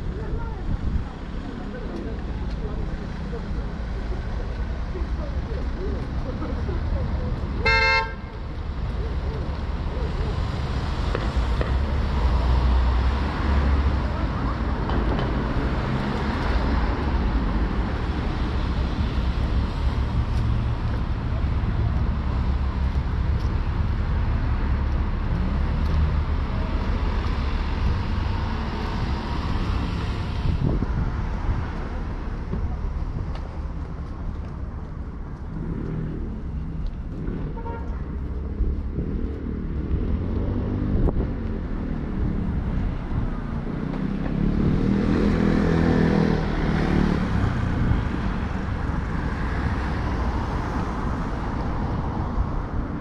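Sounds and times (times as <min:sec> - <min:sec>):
cars driving past: 0:01.2 - 0:53.0.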